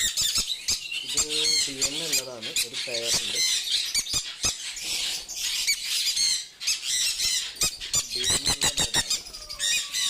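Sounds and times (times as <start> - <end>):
parrots screeching: 0.0 - 10.0.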